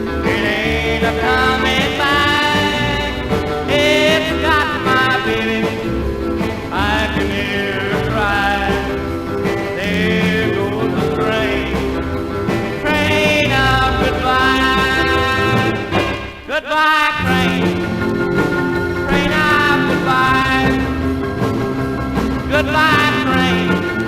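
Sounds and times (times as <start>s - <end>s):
bass notes: 0.0s - 16.5s, 17.2s - 24.0s
person singing with small band: 0.0s - 24.0s.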